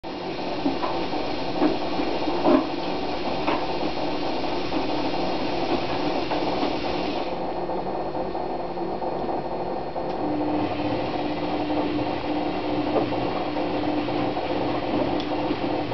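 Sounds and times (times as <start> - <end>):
washing machine running: 0.0 - 15.9.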